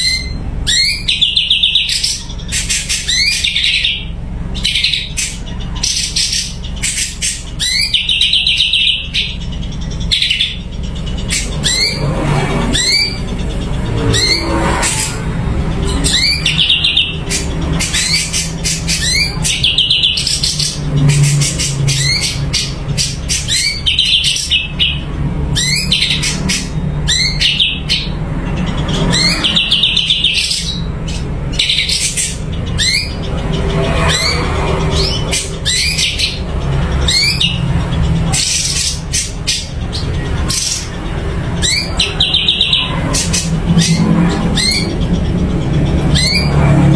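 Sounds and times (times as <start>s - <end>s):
songbird singing: 0.0s - 46.9s
steady low hum: 0.0s - 46.9s.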